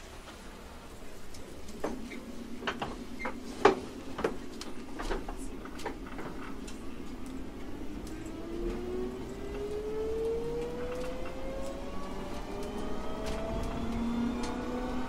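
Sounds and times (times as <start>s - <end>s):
train interior low hum: 0.0s - 15.0s.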